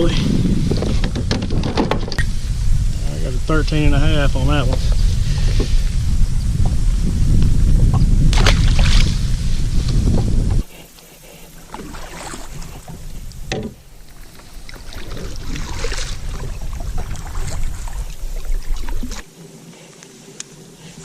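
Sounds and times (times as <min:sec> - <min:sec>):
wind on microphone: 0:00.0 - 0:19.3
water noise: 0:00.0 - 0:19.7.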